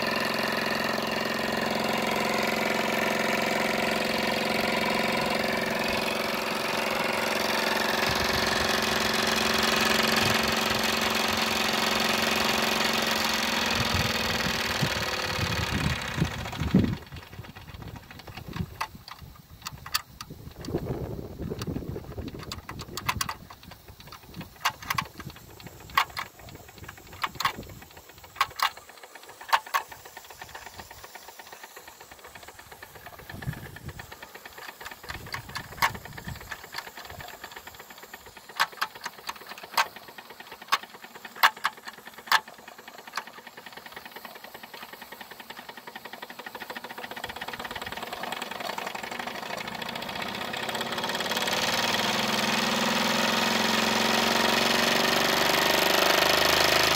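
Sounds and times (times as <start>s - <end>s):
steam model engine rattling: 0.0s - 56.9s
sharp clicks: 1.6s - 52.7s.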